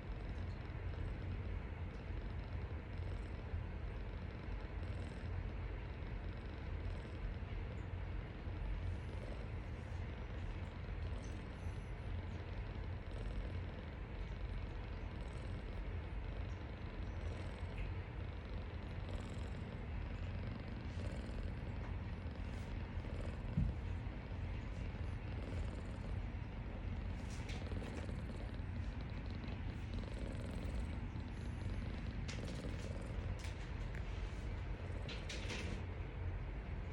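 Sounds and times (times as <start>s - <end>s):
cat purring: 0.0s - 36.9s.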